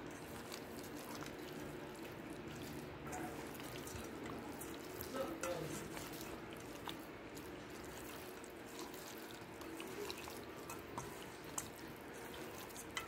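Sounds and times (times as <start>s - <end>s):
wet squelches of meat in marinade: 0.0s - 13.0s.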